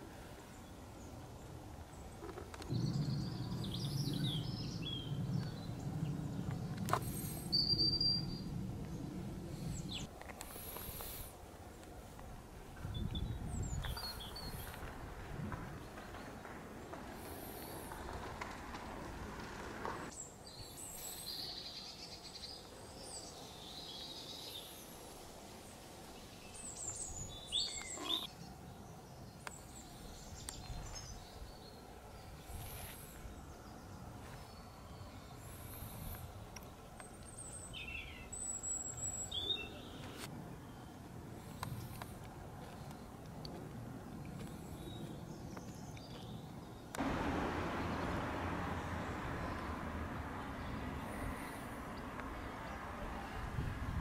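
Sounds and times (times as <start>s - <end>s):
low outdoor background noise: 0.0s - 54.0s
small birds chirping: 0.4s - 15.0s, 20.1s - 53.4s.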